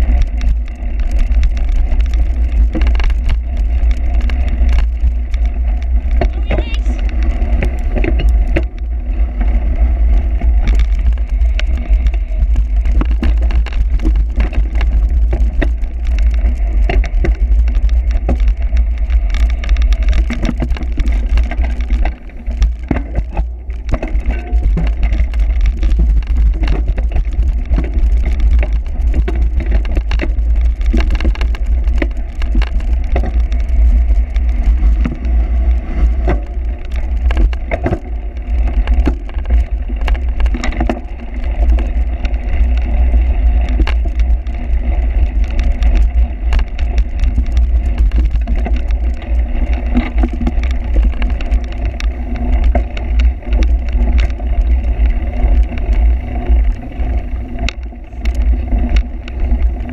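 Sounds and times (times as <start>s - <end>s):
bicycle rattling and knocking: 0.0s - 59.9s
wind rumble: 0.0s - 59.9s.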